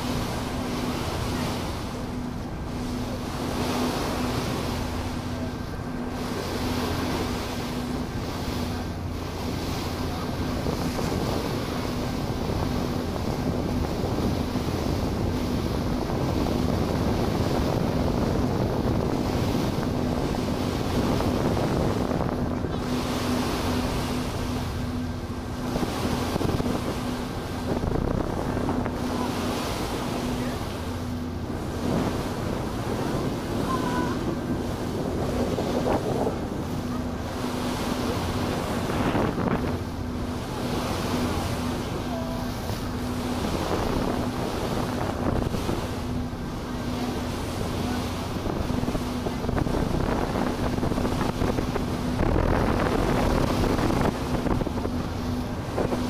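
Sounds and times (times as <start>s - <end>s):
ferry engine drone: 0.0s - 56.0s
water rushing past hull: 0.0s - 56.0s
wind buffeting microphone: 0.0s - 56.0s.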